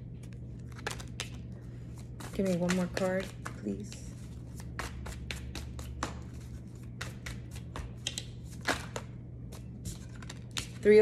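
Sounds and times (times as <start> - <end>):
steady low hum: 0.0 - 11.0
cards shuffled by hand: 0.2 - 11.0.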